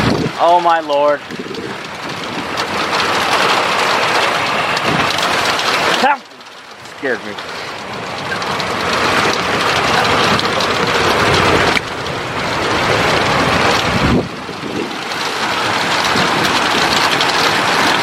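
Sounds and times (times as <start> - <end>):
wind buffeting microphone: 0.0 - 0.4, 1.2 - 6.0, 7.8 - 18.0
heavy rain pouring: 0.0 - 18.0.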